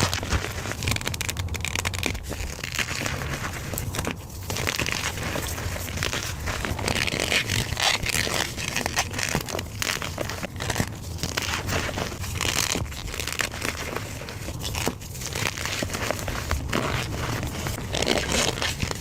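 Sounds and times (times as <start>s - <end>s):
chalk crushed by hand crunching: 0.0s - 19.0s.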